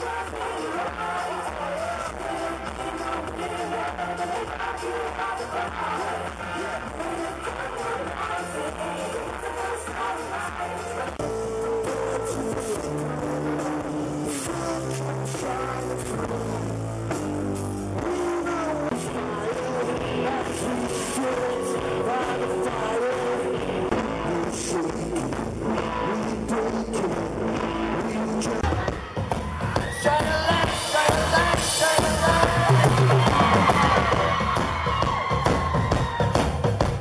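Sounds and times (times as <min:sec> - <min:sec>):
person singing: 0:00.0 - 0:36.5
live pop-rock band music: 0:00.0 - 0:37.0.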